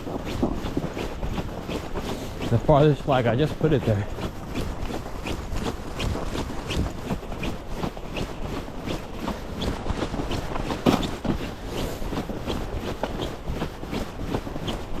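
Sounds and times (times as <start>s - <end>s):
footsteps in deep snow: 0.0s - 15.0s.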